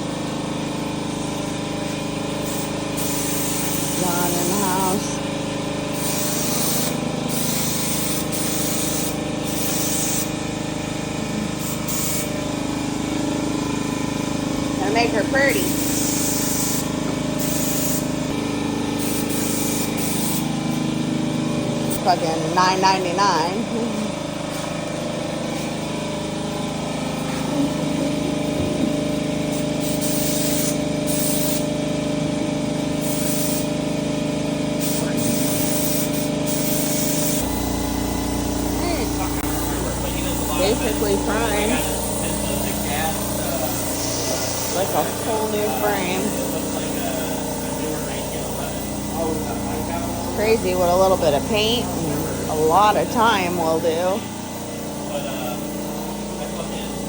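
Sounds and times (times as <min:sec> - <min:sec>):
steady motor hum: 0:00.0 - 0:57.0
spray gun hissing: 0:01.2 - 0:21.2, 0:21.8 - 0:31.8, 0:33.0 - 0:33.8, 0:34.8 - 0:57.0.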